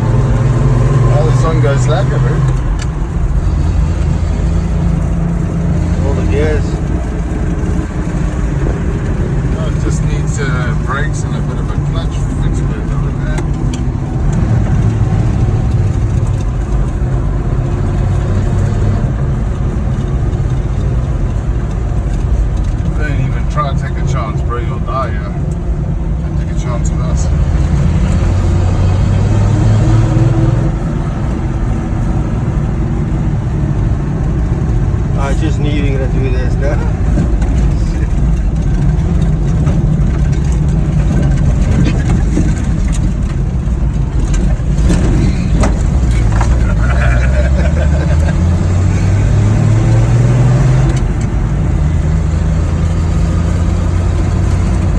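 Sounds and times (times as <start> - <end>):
pickup engine running: 0.0 - 54.9
road noise: 0.0 - 54.9.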